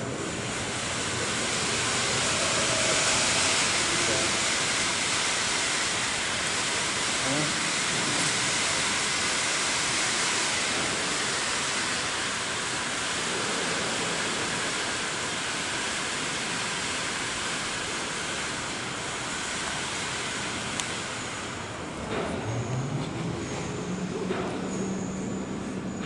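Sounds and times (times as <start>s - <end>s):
rushing hiss: 0.0s - 25.8s.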